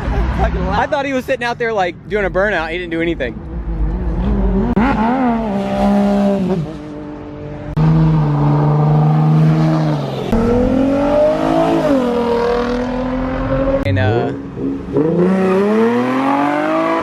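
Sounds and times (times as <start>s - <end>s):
car engine revving: 2.0s - 17.0s.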